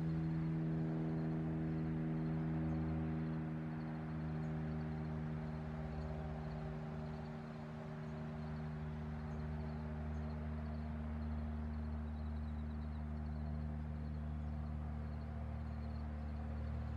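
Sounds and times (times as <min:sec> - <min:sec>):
airplane propeller engine droning: 0:00.0 - 0:16.9.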